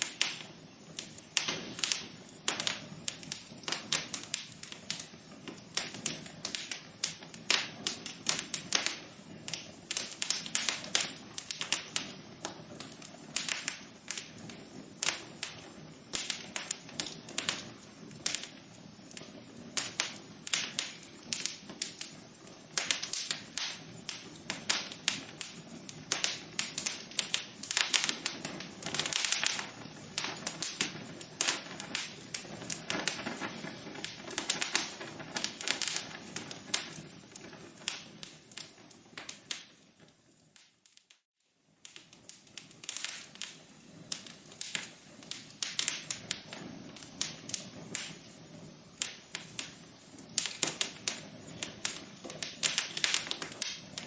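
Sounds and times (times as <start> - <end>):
soft low fire hiss: 0.0 - 54.0
wood fire crackling and popping: 0.0 - 54.0.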